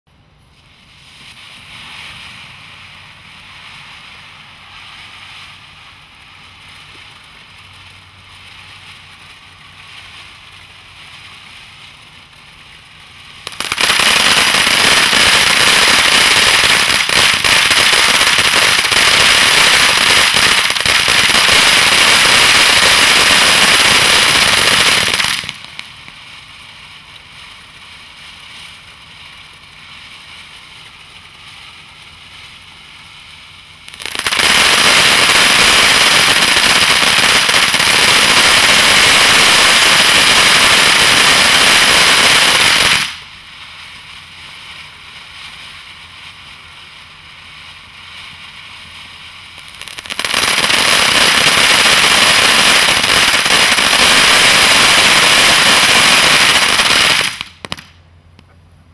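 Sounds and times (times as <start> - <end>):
firework fountain crackling: 0.1 - 58.9.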